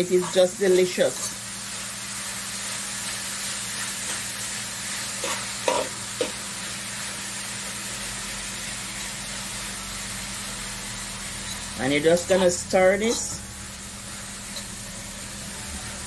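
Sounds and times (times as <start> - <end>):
vegetables sizzling in a skillet: 0.0 - 16.0.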